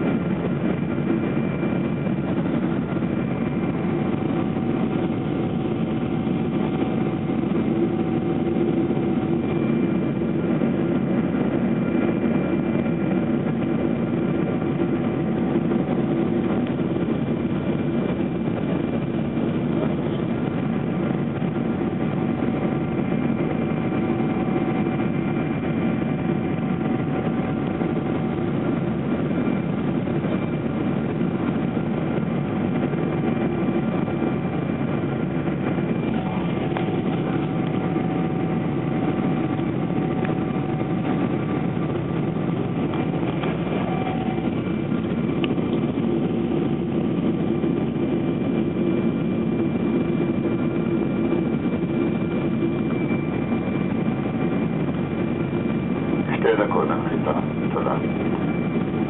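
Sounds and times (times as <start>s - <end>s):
jet engine drone in cabin: 0.0s - 59.0s
steady whining tones: 0.0s - 59.0s.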